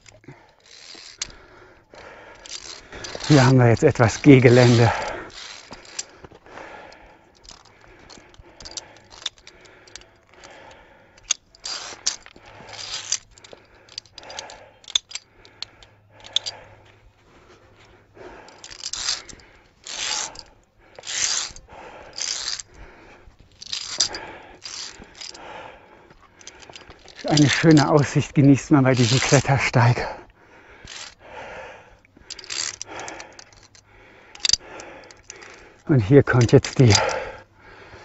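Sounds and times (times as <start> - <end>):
metallic carabiner clinks: 0.0 - 1.4, 2.0 - 6.2, 6.9 - 17.0, 17.8 - 30.1, 30.8 - 31.2, 32.0 - 37.5
carabiner clipping onto cable: 0.0 - 17.0, 17.8 - 31.2, 31.9 - 37.5.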